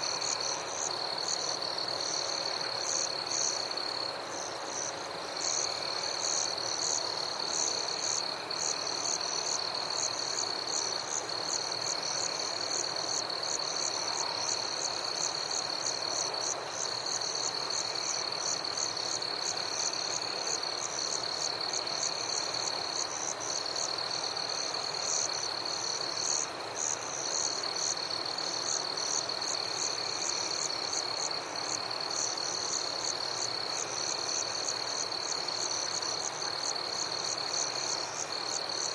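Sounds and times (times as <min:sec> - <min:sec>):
background hiss: 0:00.0 - 0:38.9
insects trilling: 0:00.0 - 0:38.9
rapid insect chirping: 0:00.0 - 0:38.9.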